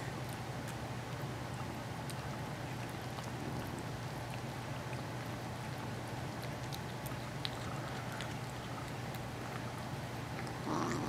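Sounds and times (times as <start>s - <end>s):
kittens chewing and lapping: 0.0s - 11.0s
steady low hum: 0.0s - 11.0s.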